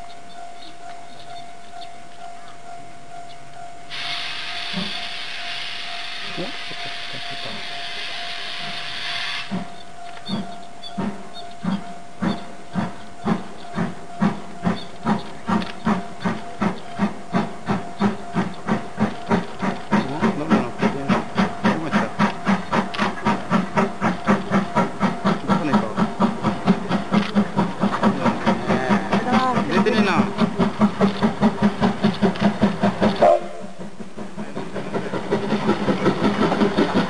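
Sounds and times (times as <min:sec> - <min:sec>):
steam locomotive chuffing: 0:00.0 - 0:37.0.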